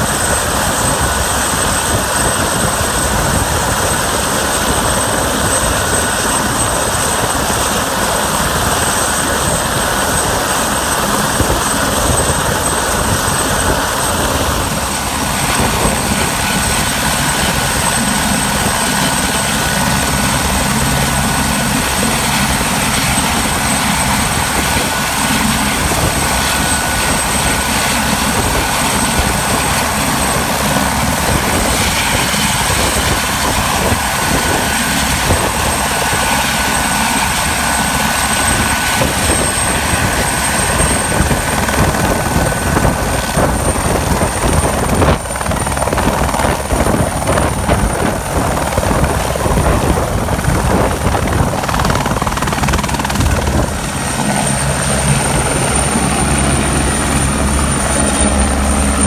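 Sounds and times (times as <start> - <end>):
helicopter engine whine and rotor: 0.0 - 59.0.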